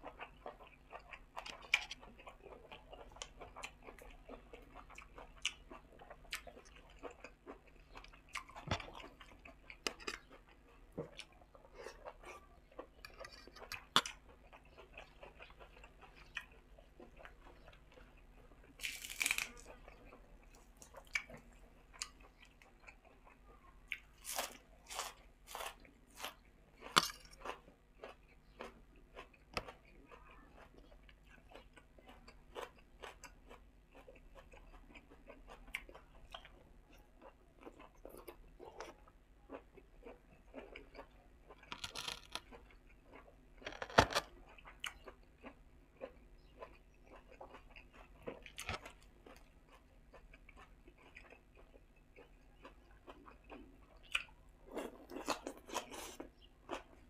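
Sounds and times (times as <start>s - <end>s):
person chewing and crunching food: 0.0s - 57.0s.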